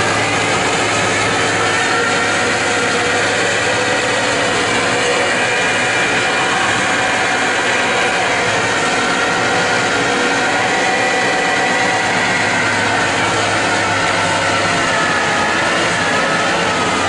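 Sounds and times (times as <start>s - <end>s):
truck engine at high revs: 0.0s - 17.0s
tyres spinning on pavement: 0.0s - 17.0s.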